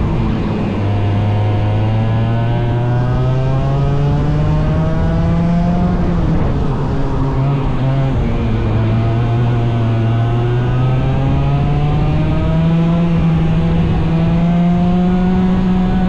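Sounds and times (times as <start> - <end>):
racing engine accelerating: 0.0 - 16.0.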